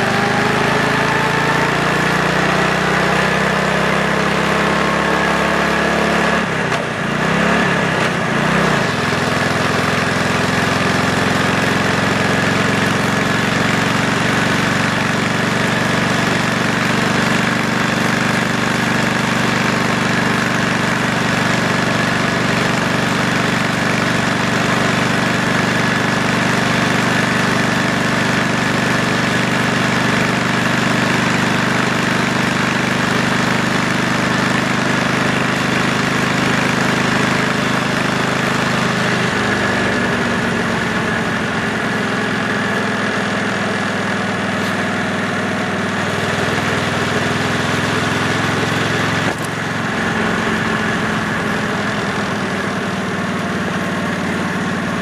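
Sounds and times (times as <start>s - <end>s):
motorcycle exhaust cruising: 0.0s - 55.0s.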